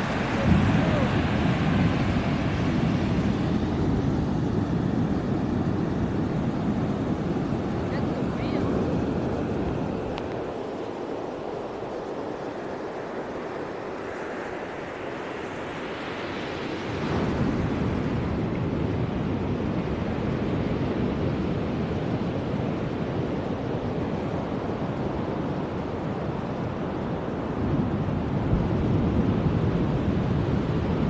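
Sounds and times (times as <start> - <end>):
wind buffeting microphone: 0.0 - 12.7, 16.6 - 31.0
surf washing on beach: 0.0 - 31.0.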